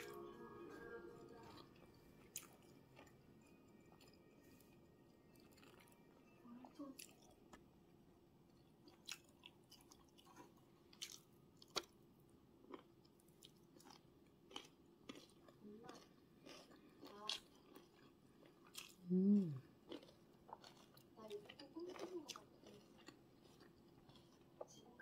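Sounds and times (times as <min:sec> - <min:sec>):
quiet chewing: 0:00.0 - 0:07.7, 0:08.4 - 0:25.0.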